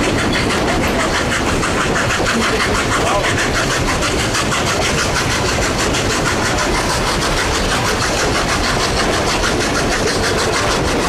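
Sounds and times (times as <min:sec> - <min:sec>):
steam hiss: 0:00.0 - 0:11.0
steam locomotive chuffing: 0:00.0 - 0:11.0.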